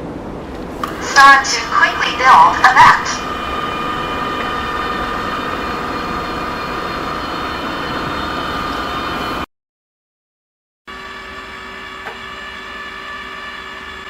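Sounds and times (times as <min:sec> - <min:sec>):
robot vacuum motor whine: 0:00.4 - 0:09.4, 0:10.9 - 0:14.0.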